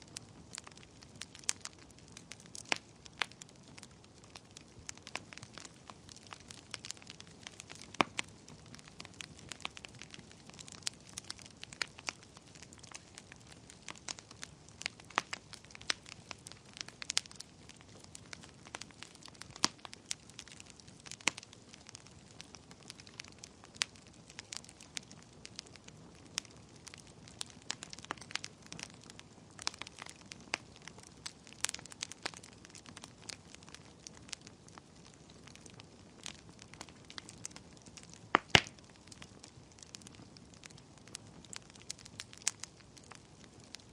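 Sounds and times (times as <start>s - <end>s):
faint steady hiss: 0.0s - 43.9s
wood fire crackling and popping: 0.0s - 43.9s.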